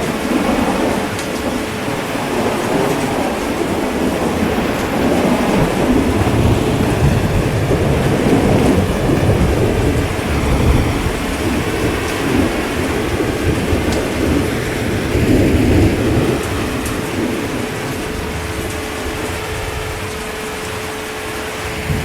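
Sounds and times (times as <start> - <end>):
low rumble of thunder: 0.0 - 22.0
rain falling: 0.0 - 22.0.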